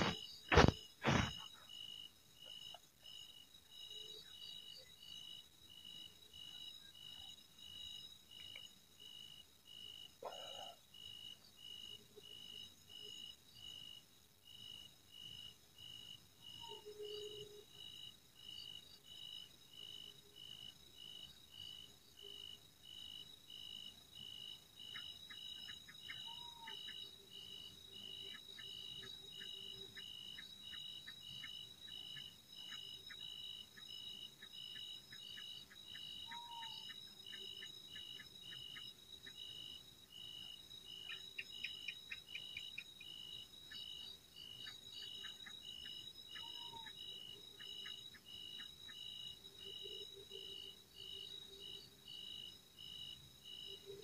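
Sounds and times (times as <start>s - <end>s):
pulsing insect trill: 0.0s - 54.0s.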